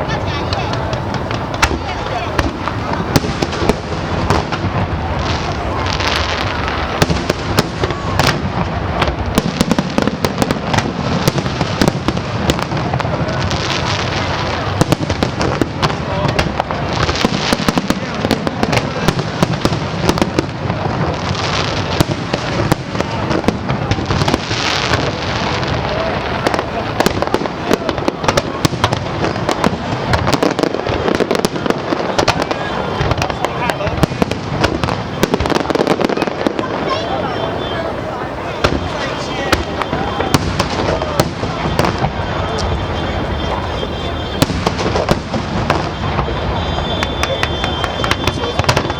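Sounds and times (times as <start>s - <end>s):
fireworks cracking and banging: 0.0s - 48.9s.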